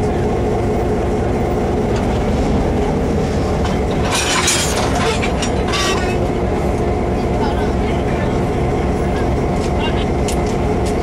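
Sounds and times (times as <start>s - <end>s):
diesel locomotive drone: 0.0s - 11.0s
train wheels rumbling on rail: 0.0s - 11.0s.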